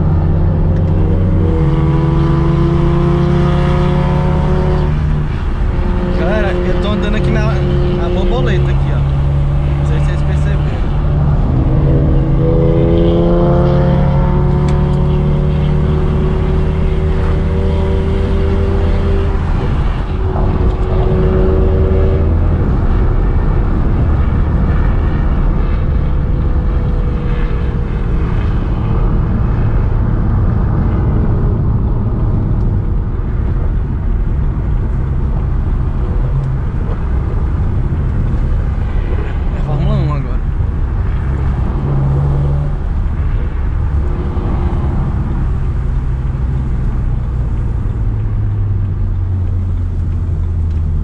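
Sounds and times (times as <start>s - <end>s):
car engine accelerating: 0.0s - 51.0s
road noise: 0.0s - 51.0s.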